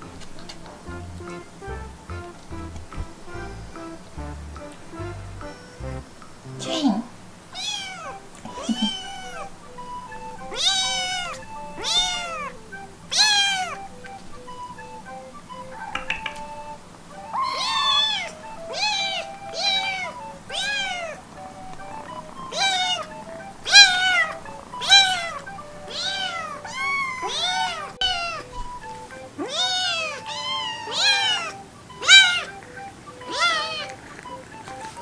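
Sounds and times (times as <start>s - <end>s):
faint background music: 0.0s - 35.0s
kittens meowing: 6.6s - 35.0s.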